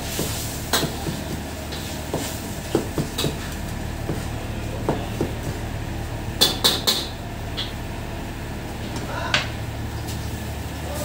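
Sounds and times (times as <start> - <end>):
low hum: 1.4 - 11.0.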